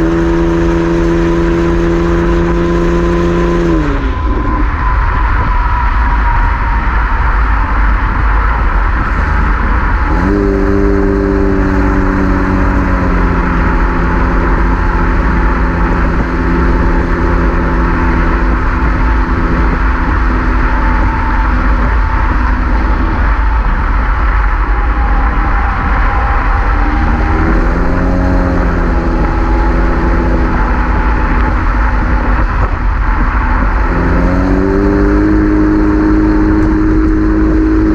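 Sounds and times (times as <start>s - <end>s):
car exhaust note: 0.0s - 37.9s
low road rumble: 0.0s - 37.9s.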